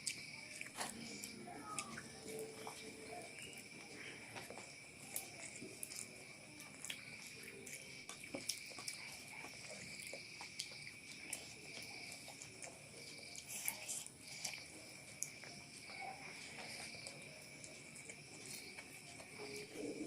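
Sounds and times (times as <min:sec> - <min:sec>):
soft chewing: 0:00.0 - 0:20.0.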